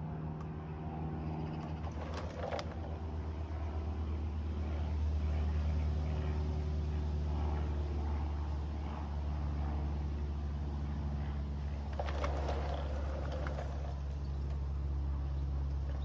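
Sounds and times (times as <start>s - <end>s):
model locomotive droning: 0.0s - 16.0s.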